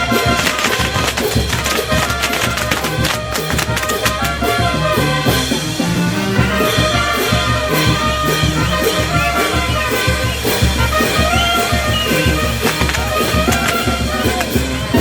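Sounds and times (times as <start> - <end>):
brass band playing festive music: 0.0 - 15.0.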